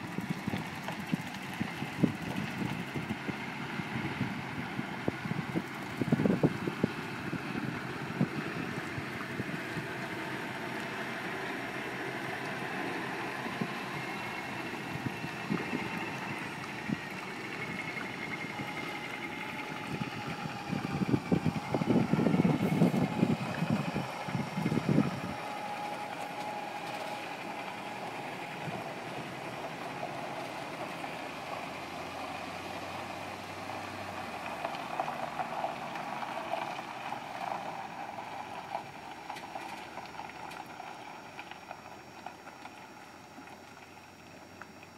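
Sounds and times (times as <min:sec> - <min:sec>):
diesel trucks rolling past: 0:00.0 - 0:44.9.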